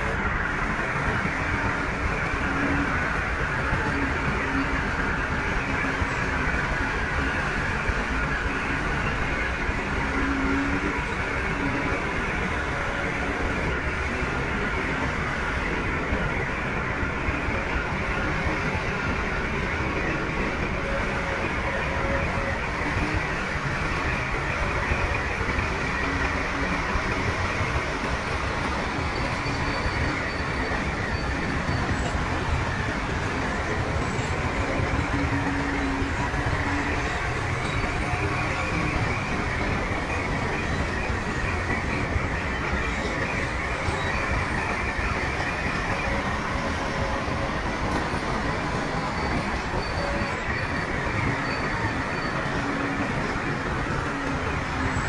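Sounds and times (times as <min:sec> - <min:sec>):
steel tracks clattering and squealing: 0:00.0 - 0:55.0.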